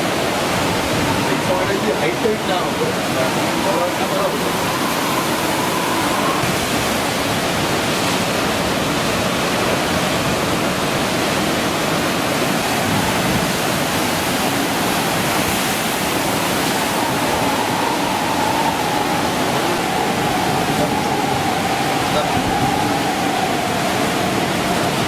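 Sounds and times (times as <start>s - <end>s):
rushing floodwater and rain: 0.0s - 25.0s.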